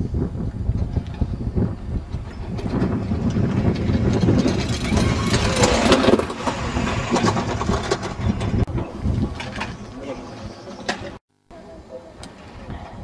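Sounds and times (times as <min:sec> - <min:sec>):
toboggan sled rumbling on track: 0:00.0 - 0:11.2.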